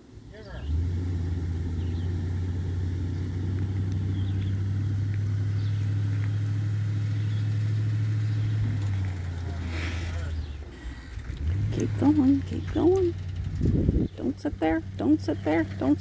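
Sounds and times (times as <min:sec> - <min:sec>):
truck engine under heavy load: 0:00.0 - 0:16.0.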